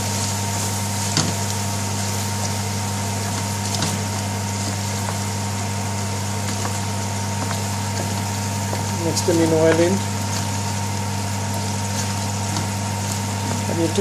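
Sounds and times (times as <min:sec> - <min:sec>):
onions sizzling in oil: 0:00.0 - 0:14.0
steady low hum: 0:00.0 - 0:14.0.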